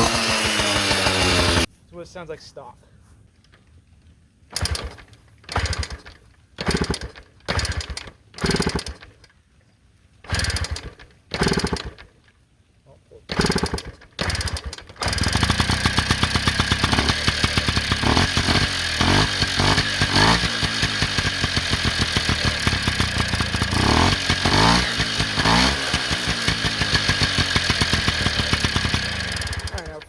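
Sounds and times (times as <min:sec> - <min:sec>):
moped engine idling and revving: 0:00.0 - 0:01.7, 0:04.6 - 0:09.1, 0:10.3 - 0:12.1, 0:13.3 - 0:30.0.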